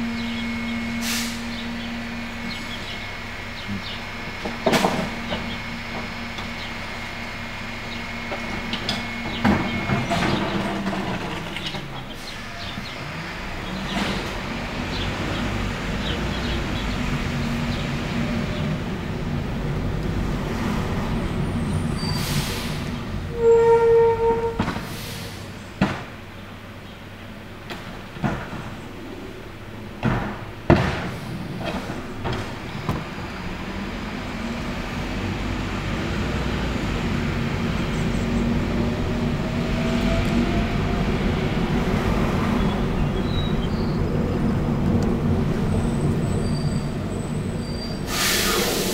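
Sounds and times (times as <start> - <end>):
garbage truck diesel engine: 0.0 - 48.9.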